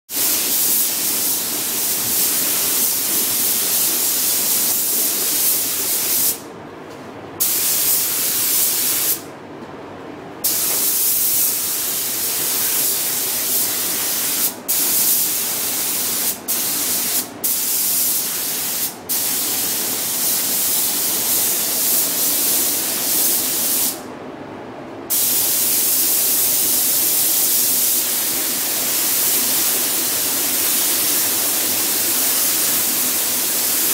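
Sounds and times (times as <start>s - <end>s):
spray gun hissing: 0.2s - 6.4s, 7.4s - 9.2s, 10.4s - 24.0s, 25.1s - 33.9s.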